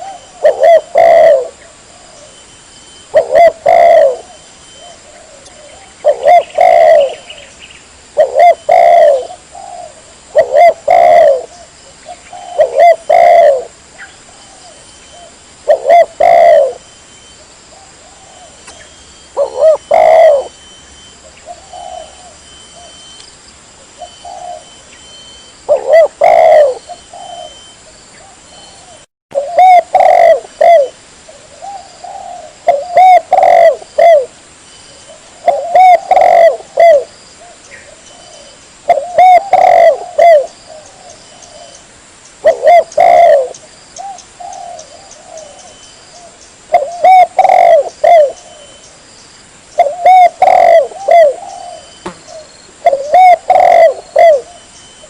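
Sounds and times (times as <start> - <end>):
dove cooing: 0.0 - 7.5, 8.2 - 23.2, 23.8 - 41.8, 42.4 - 48.9, 49.8 - 55.0.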